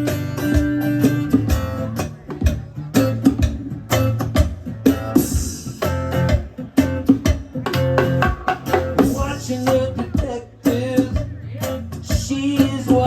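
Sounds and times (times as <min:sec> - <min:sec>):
plucked guitar playing: 0:00.0 - 0:13.0
sustained bass notes: 0:00.0 - 0:13.0.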